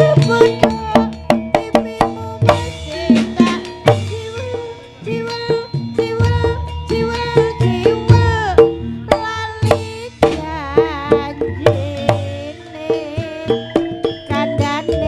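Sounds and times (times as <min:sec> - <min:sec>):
hand drum strokes: 0:00.0 - 0:15.0
sustained melodic tones: 0:00.0 - 0:15.0
wavering vibrato lead line: 0:00.0 - 0:15.0.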